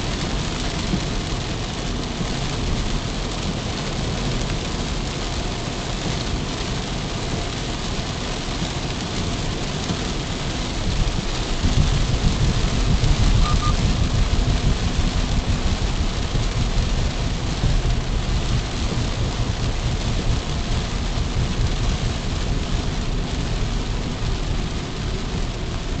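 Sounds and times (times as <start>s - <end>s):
low road rumble: 0.0s - 26.0s
tyres hissing on wet road: 0.0s - 26.0s.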